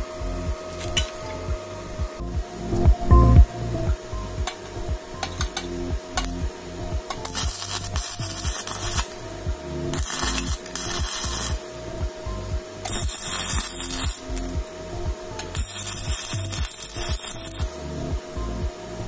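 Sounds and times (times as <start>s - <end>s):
background music with steady beat: 0.0s - 19.0s
welding arc crackling: 0.0s - 19.0s.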